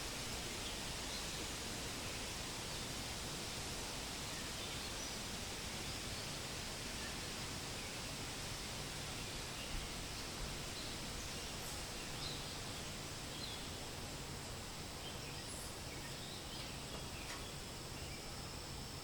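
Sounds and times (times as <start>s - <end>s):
wind rustling leaves: 0.0s - 19.0s.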